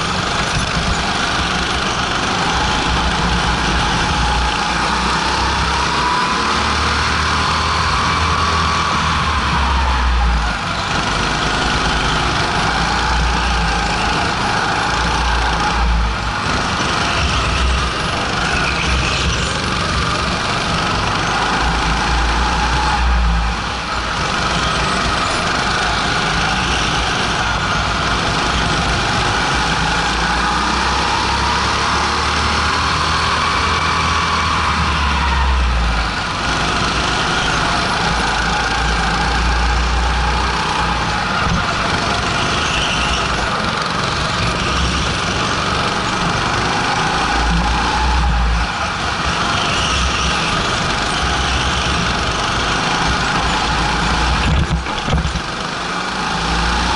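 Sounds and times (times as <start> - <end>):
go-kart engine at speed: 0.0 - 56.9.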